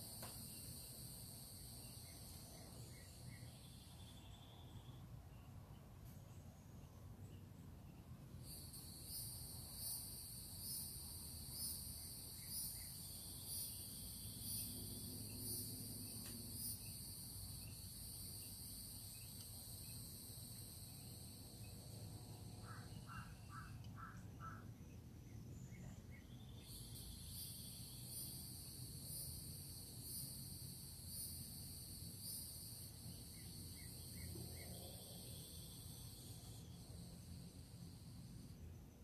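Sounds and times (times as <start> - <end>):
insects trilling: 0.0 - 5.1, 8.4 - 39.0.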